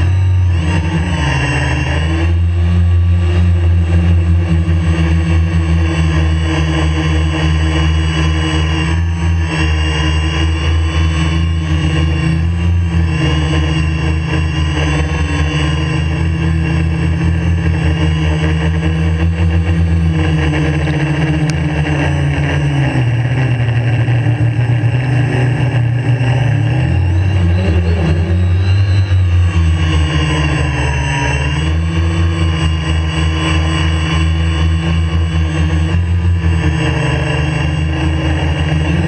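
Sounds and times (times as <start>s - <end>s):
drone motors humming: 0.0s - 39.0s.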